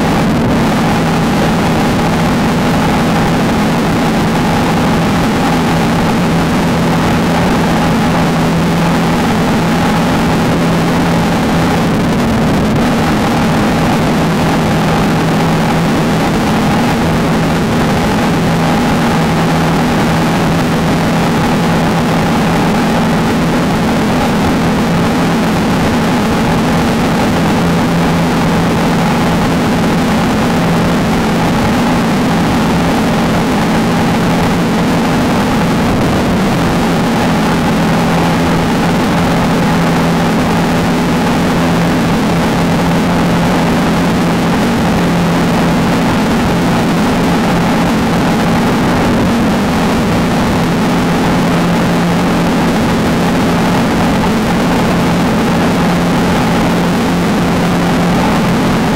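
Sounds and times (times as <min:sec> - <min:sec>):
race car engine running hard: 0:00.0 - 0:58.9
wind and terrain noise: 0:00.0 - 0:58.9.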